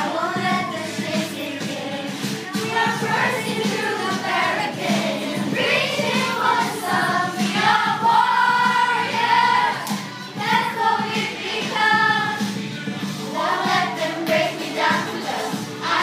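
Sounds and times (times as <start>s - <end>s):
girls choir singing: 0.0s - 12.6s, 13.2s - 16.0s.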